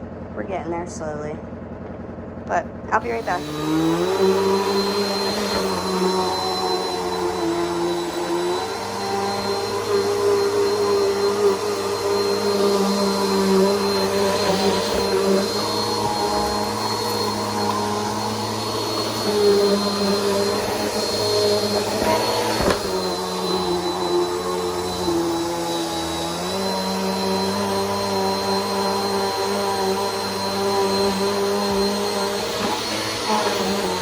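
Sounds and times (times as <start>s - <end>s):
vacuum cleaner running: 2.5s - 34.0s.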